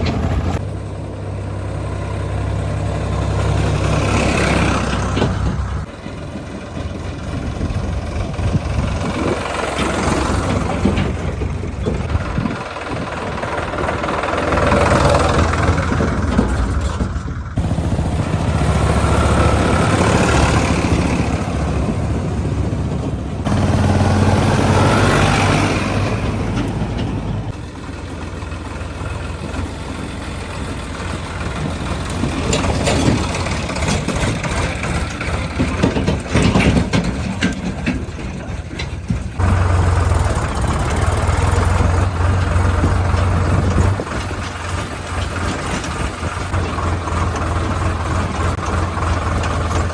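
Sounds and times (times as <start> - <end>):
tractor diesel engine: 0.0 - 49.9.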